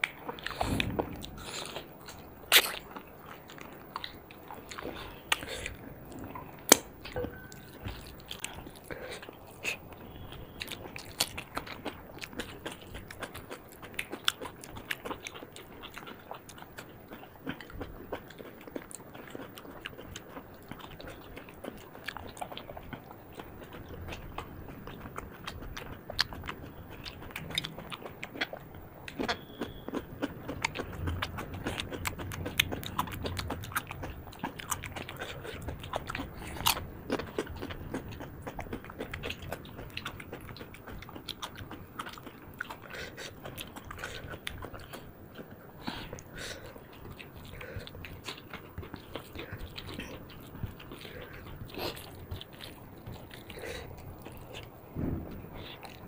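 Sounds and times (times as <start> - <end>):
chewing and wet mouth smacks: 0.0 - 56.0.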